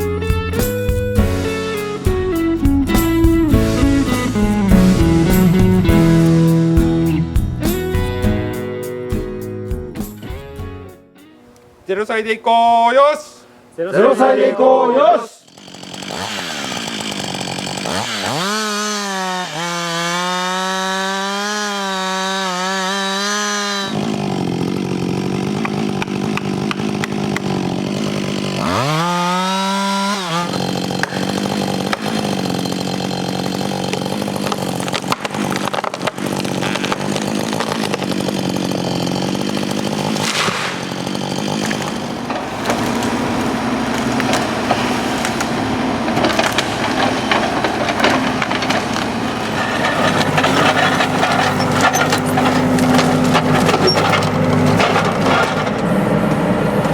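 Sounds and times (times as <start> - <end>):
chainsaw revving and cutting wood: 0.0 - 8.7, 15.4 - 56.9.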